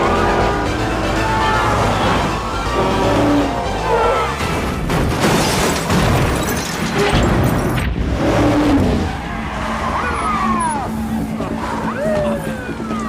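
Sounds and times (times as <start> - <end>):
car engines: 0.0 - 5.1, 6.4 - 13.0
film score music: 0.0 - 6.2, 7.1 - 13.0.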